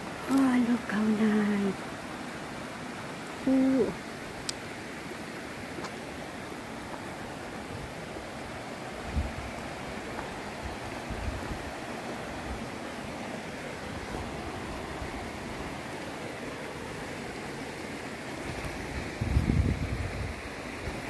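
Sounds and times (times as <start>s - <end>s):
river water flowing over stones: 0.0s - 21.0s.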